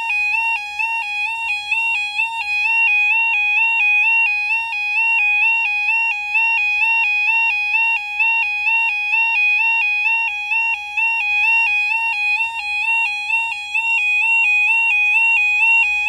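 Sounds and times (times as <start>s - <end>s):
two-tone electronic warning alarm: 0.0s - 16.0s.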